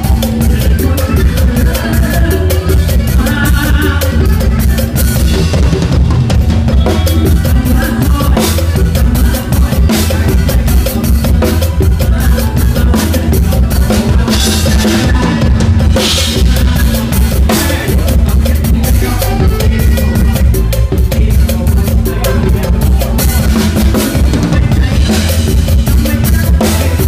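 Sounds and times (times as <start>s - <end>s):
band playing underneath: 0.0s - 27.0s
drum kit played hard: 0.0s - 27.0s.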